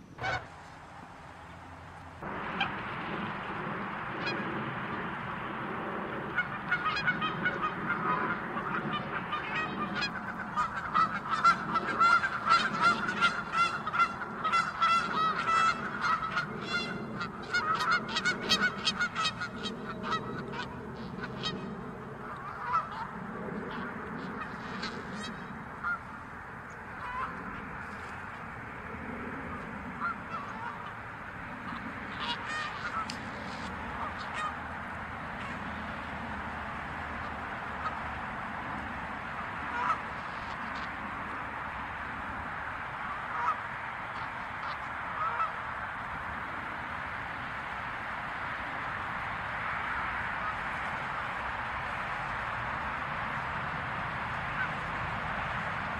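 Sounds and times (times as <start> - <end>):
geese honking: 0.0 - 41.4, 43.0 - 46.1, 49.7 - 55.9.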